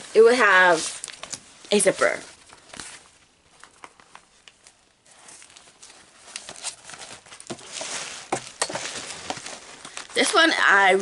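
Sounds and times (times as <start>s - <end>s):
nylon bag rustling: 0.0s - 3.3s, 4.6s - 11.0s.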